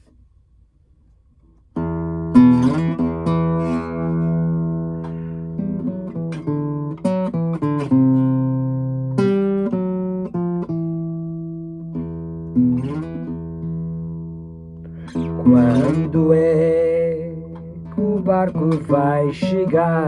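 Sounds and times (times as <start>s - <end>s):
acoustic guitar plucked and strummed: 1.5s - 20.0s.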